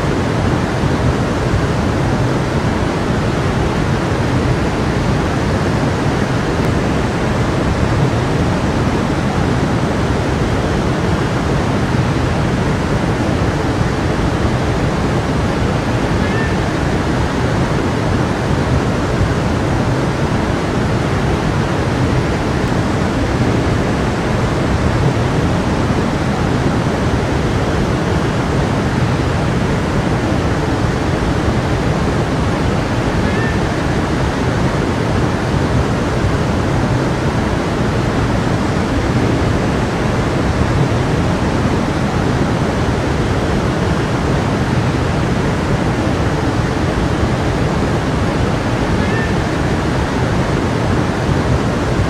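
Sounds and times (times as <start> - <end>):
stream flowing: 0.0 - 52.0.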